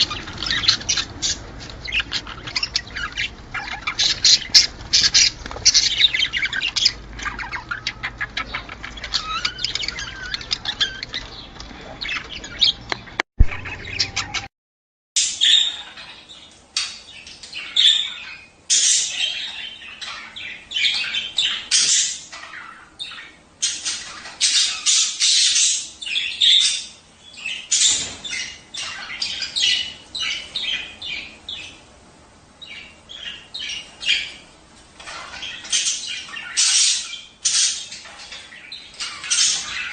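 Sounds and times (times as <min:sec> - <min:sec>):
budgerigars chattering: 0:00.0 - 0:14.5, 0:15.3 - 0:31.9, 0:32.6 - 0:39.9.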